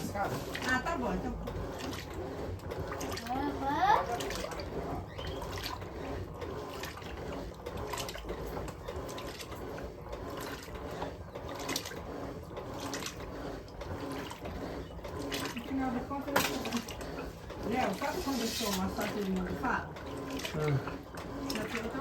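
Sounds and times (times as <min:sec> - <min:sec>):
washing machine water churning: 0:00.0 - 0:22.0.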